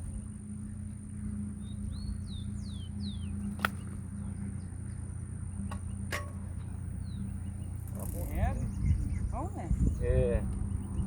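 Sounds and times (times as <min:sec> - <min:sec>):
small bird chirping: 0:00.0 - 0:11.0
steady low hum: 0:00.0 - 0:11.0.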